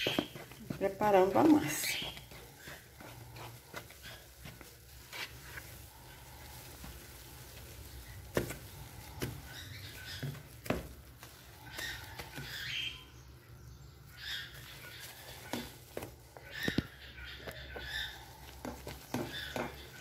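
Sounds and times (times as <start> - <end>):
spatula scraping dough: 0.0 - 13.0, 14.2 - 20.0.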